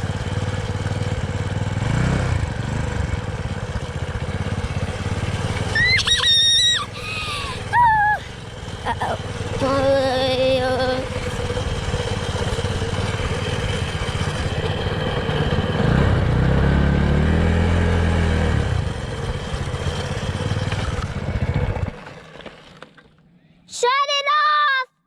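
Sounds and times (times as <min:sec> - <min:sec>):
dirt bike engine revving: 0:00.0 - 0:22.7.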